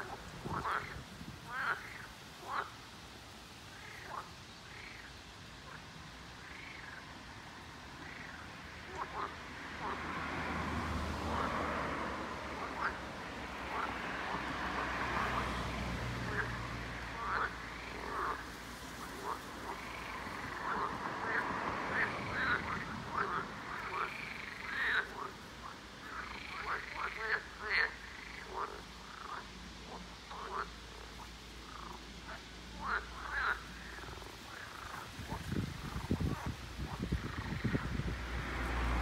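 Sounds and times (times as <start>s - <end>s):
toads croaking: 0.0s - 2.9s, 3.7s - 39.0s.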